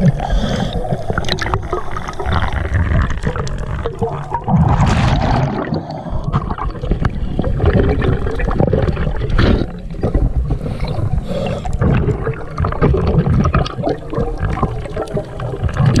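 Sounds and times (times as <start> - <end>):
rushing water underwater: 0.0 - 16.0
scuba regulator bubbling: 0.0 - 16.0.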